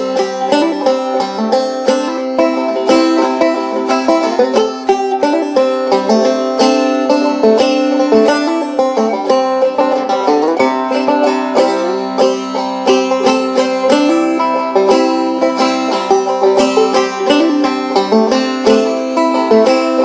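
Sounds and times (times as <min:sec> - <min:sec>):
picked banjo string-band music: 0:00.0 - 0:20.0.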